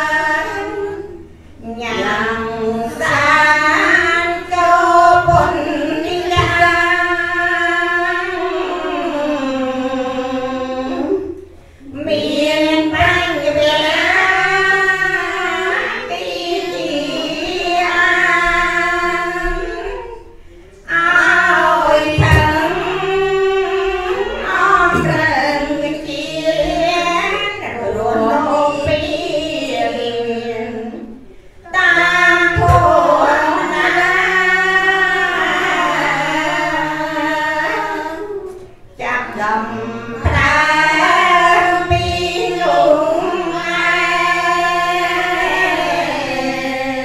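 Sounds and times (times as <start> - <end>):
woman leading chant through microphone: 0.0 - 47.0
women chanting in unison: 0.0 - 47.0.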